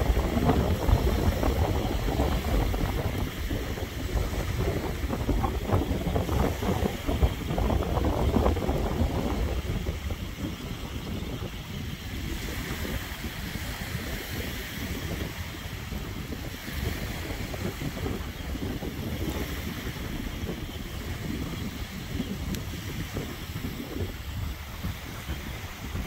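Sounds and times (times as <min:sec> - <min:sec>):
small waves washing on beach: 0:00.0 - 0:26.0
wind buffeting microphone: 0:00.0 - 0:26.0.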